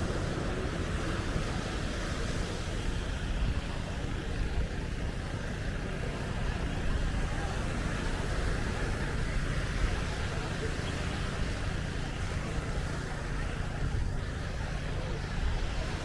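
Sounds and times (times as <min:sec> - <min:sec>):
ocean surf: 0:00.0 - 0:16.0
road traffic: 0:00.0 - 0:16.0.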